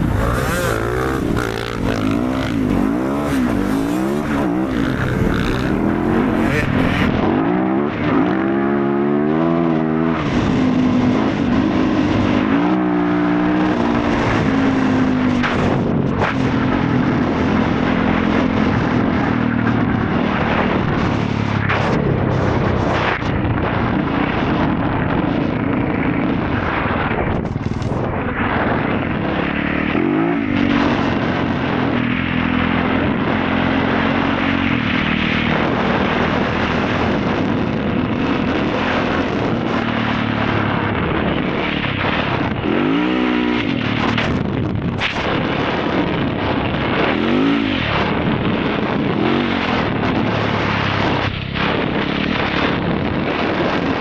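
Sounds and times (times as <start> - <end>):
motorcycle engine revving: 0.0 - 54.0
steady noisy rush: 0.0 - 54.0.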